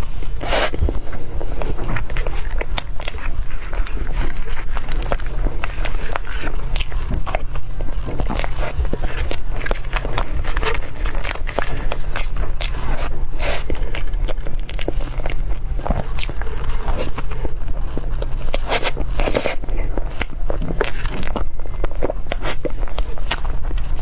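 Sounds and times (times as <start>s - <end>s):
knife scraping paper wrapper: 0.0s - 24.0s
steady low hum: 0.0s - 24.0s
wet chewing mouth sounds: 0.0s - 24.0s.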